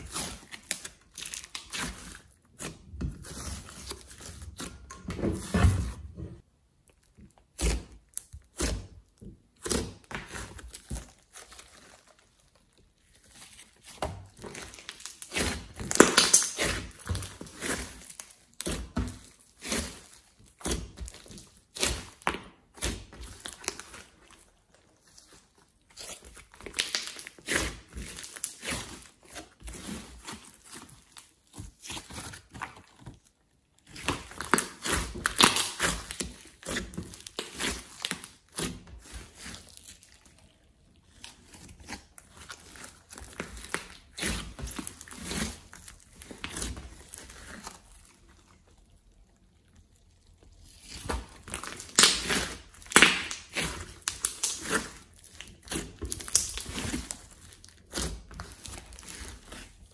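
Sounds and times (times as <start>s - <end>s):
slime being kneaded by hand: 0.0s - 59.9s.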